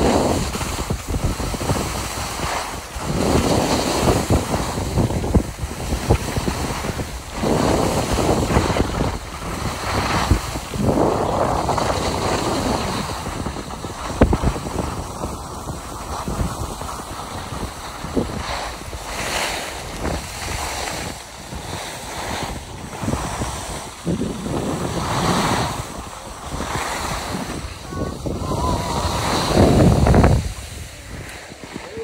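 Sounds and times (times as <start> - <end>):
skis scraping over snow: 0.0 - 32.0
wind rumbling on microphone: 0.0 - 32.0.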